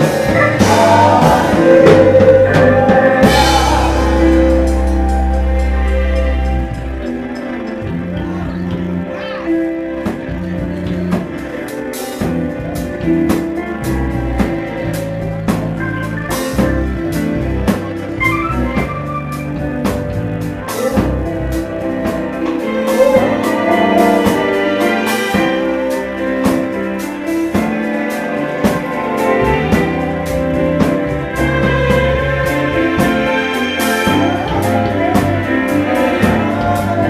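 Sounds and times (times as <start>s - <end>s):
bass line: 0.0s - 37.0s
drum kit with cymbal hits: 0.0s - 37.0s
electric guitar: 0.0s - 37.0s
electronic keyboard chords: 0.0s - 37.0s.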